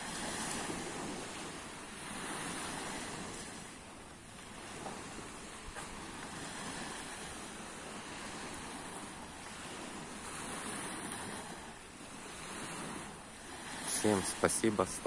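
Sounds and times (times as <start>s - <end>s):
small sea waves washing in: 0.0s - 15.0s.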